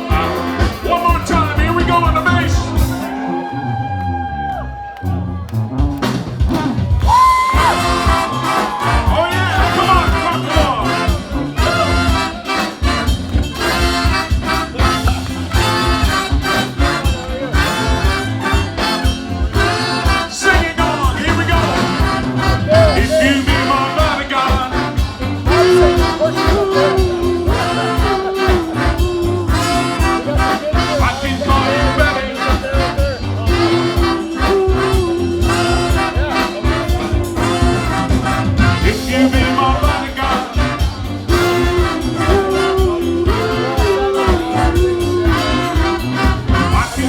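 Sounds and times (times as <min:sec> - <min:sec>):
steady drum beat: 0:00.0 - 0:04.1, 0:05.0 - 0:47.0
upbeat band music with brass: 0:00.0 - 0:47.0.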